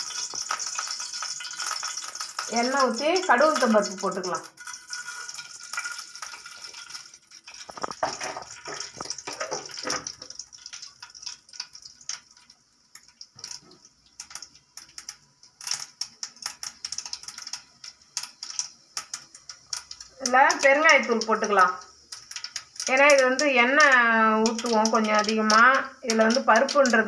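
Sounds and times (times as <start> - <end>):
seeds spluttering in hot oil: 0.0 - 27.0.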